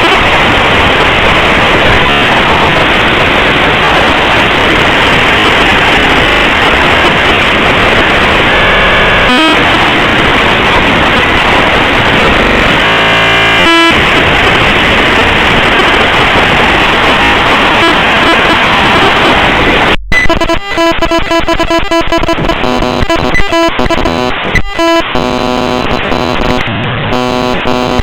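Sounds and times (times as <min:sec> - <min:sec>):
choppy repeating buzzy tones: 0:00.0 - 0:28.0
harsh hiss and crackle: 0:00.0 - 0:28.0
stuttering stepped buzzes: 0:00.0 - 0:28.0.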